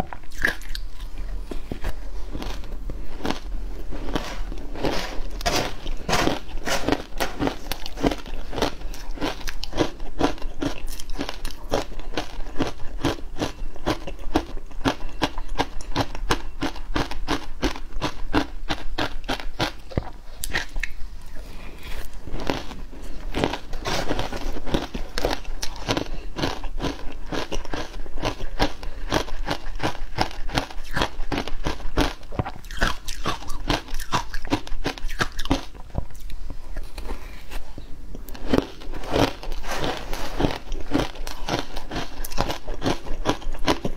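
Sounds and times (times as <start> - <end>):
ice being chewed and crunched: 0.0 - 21.0, 21.7 - 37.1, 38.1 - 43.9.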